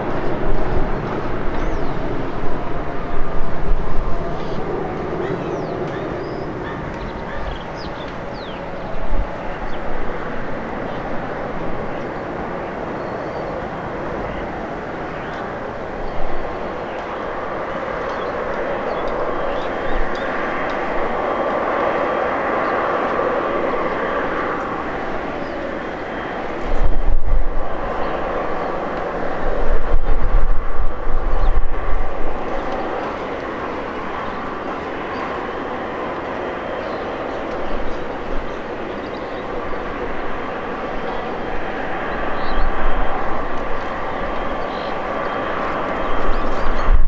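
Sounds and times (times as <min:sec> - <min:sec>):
jet engines roaring and whining: 0:00.0 - 0:47.0
wind buffeting microphone: 0:00.0 - 0:47.0.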